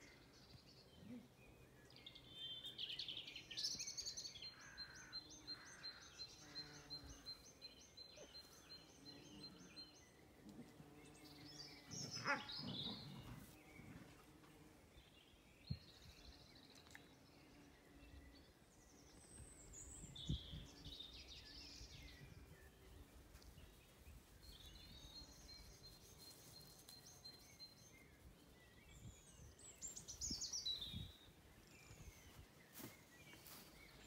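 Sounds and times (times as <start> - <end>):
faint birdsong: 0.0 - 34.0
outdoor background noise: 0.0 - 34.0.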